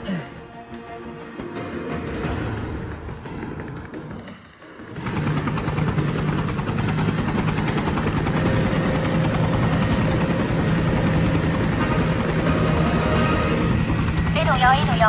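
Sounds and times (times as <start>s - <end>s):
helicopter engine and rotor hum: 0.1s - 15.0s.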